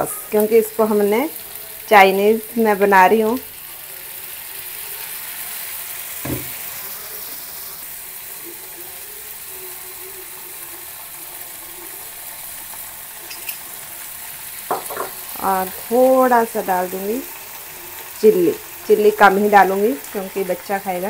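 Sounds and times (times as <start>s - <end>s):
onion and garlic sizzling in oil: 0.0s - 21.0s.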